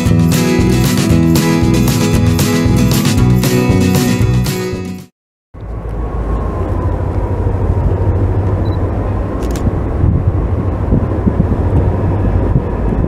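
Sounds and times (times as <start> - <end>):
diesel freight train rumble: 0.0 - 4.5, 5.6 - 13.0.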